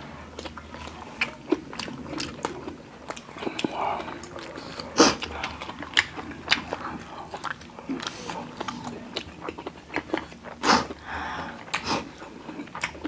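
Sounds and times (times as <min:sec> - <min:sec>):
wet chewing mouth clicks: 0:00.4 - 0:11.0, 0:11.6 - 0:13.0.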